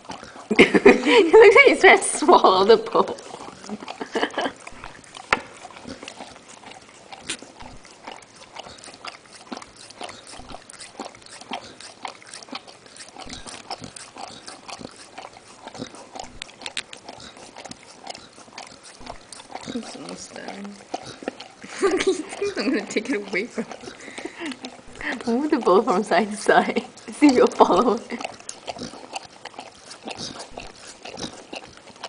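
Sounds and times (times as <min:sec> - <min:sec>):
dog licking wetly: 0:00.0 - 0:32.0.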